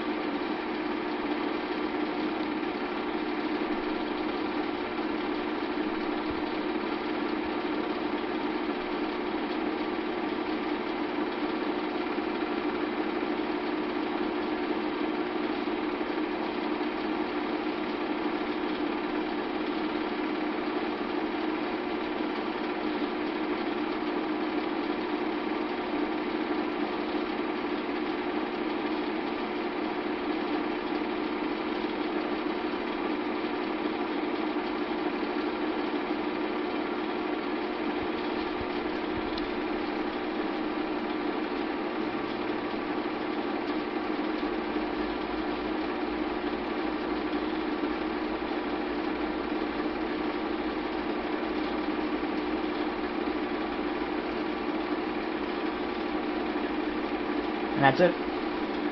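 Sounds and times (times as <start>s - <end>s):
film projector running: 0.0s - 58.9s.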